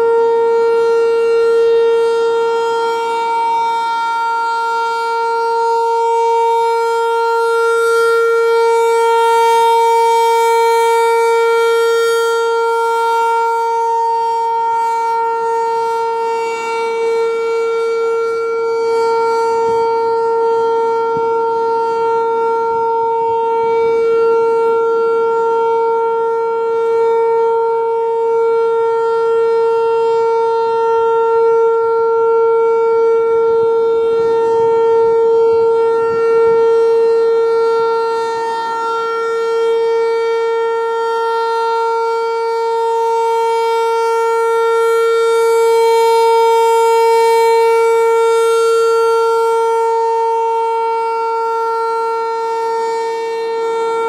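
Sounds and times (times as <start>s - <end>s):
rotating warning siren: 0.0s - 54.0s.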